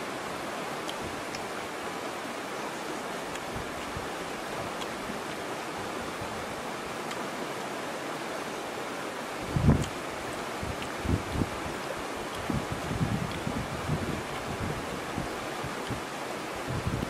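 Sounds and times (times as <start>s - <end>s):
river flowing over stones: 0.0s - 17.0s.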